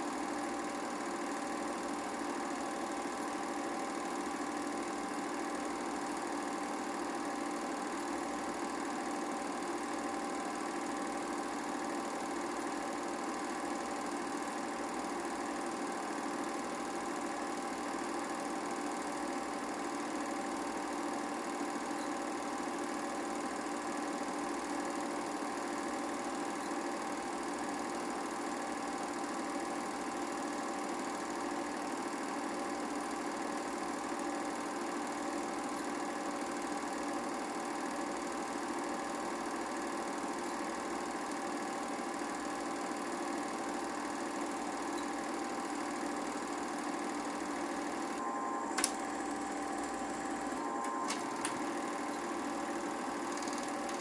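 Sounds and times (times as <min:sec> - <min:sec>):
film projector humming: 0:00.0 - 0:54.0.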